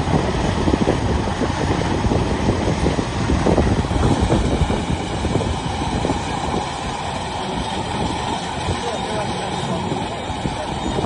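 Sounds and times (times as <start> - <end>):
combine harvester rattling clatter: 0.0 - 11.0.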